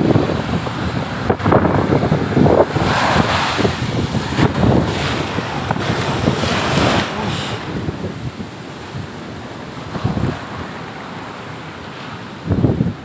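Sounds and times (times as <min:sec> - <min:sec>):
surf breaking over rocks: 0:00.0 - 0:13.0
wind buffeting microphone: 0:00.0 - 0:13.0.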